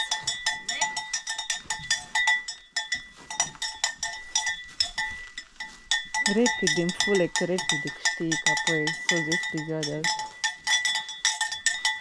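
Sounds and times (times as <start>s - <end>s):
livestock bells clanking: 0.0s - 12.0s.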